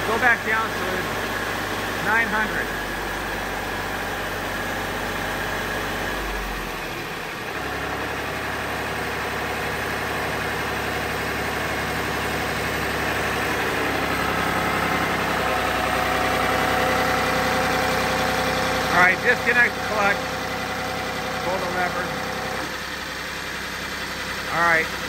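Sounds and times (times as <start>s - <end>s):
diesel engine running pump: 0.0s - 25.0s.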